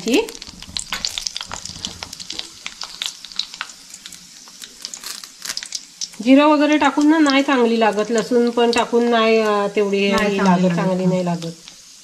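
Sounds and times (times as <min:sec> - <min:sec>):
faint sizzle: 0:00.0 - 0:12.0
seeds popping in hot oil: 0:00.0 - 0:12.0.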